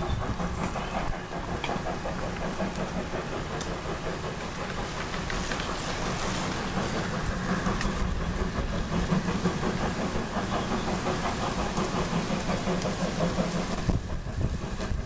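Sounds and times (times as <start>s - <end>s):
steam locomotive exhaust: 0.0s - 15.0s.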